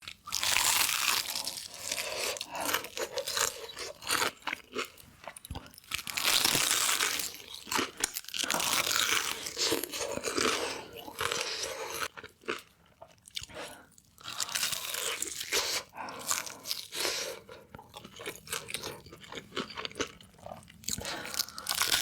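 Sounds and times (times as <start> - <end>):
crunchy chewing: 0.1 - 22.0.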